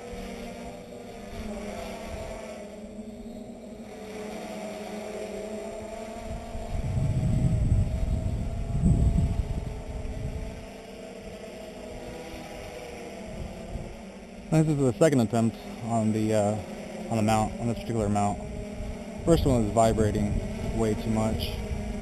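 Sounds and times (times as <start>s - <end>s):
wind rumble on microphone: 0.0s - 2.4s, 5.8s - 22.0s
drone propellers humming: 0.0s - 22.0s.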